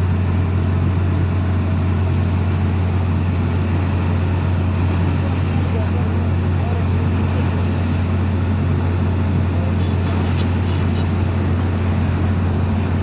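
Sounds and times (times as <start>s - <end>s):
drilling rig engine droning: 0.0s - 13.0s.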